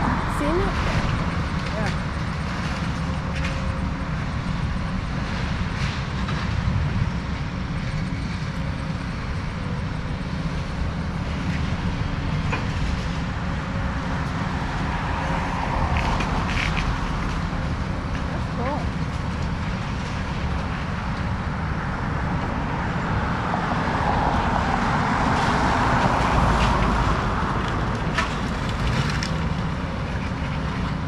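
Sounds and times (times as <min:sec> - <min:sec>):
excavator engine rumbling: 0:00.0 - 0:31.0.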